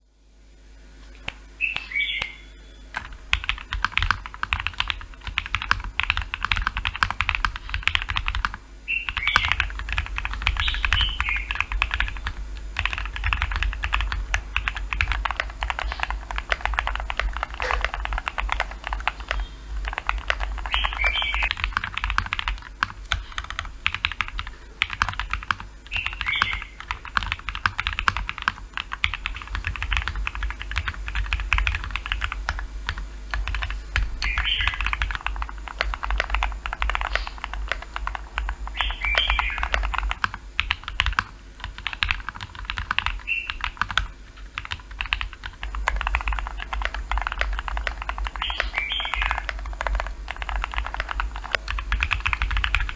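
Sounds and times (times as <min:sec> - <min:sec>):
typing on mechanical keyboard: 0:02.9 - 0:52.9.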